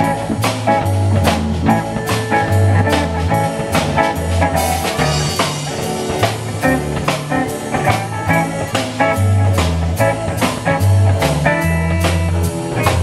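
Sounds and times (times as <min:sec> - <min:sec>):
blues band playing: 0:00.0 - 0:13.0
steady drum beat: 0:00.0 - 0:13.0.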